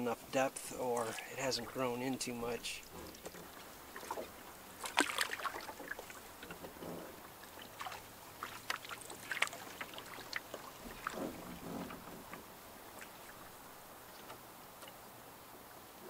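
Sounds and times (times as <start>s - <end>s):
paddle strokes in water: 0.0s - 15.2s.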